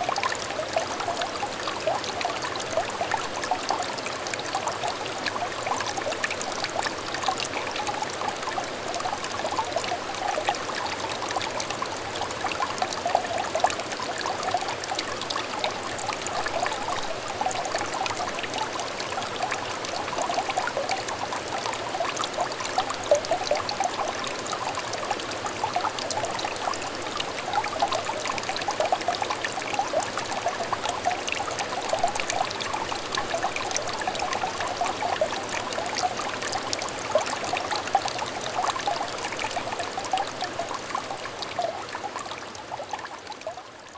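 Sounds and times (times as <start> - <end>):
stream trickling and splashing: 0.0 - 43.9.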